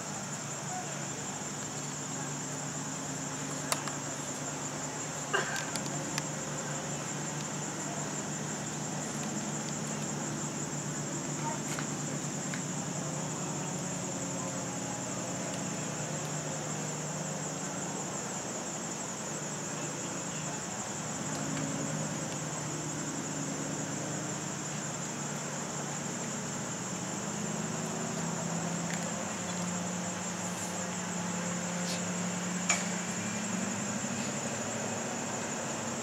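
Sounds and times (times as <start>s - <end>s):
insect chorus buzzing: 0.0s - 36.0s.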